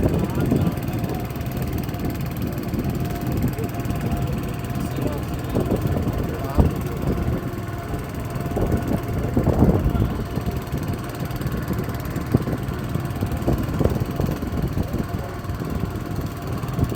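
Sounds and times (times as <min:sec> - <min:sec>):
motor boat engine running: 0:00.0 - 0:16.9.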